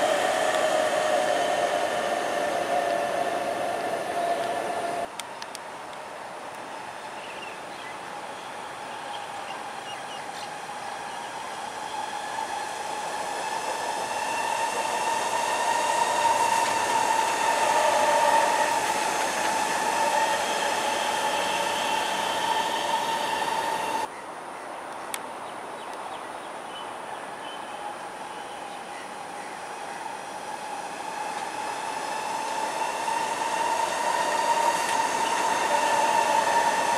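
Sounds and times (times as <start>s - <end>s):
electric train whining past: 0.0s - 24.1s, 27.1s - 36.9s.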